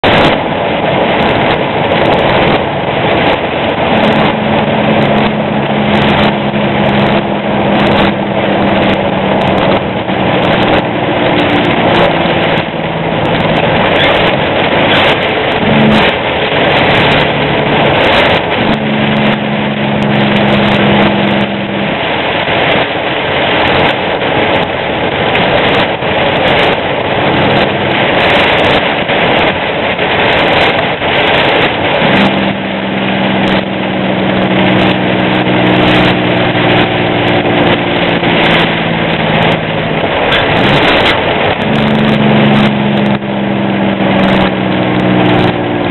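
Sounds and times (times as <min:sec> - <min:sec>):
rain and tyre spray: 0:00.0 - 0:45.9
truck engine drone: 0:00.0 - 0:45.9.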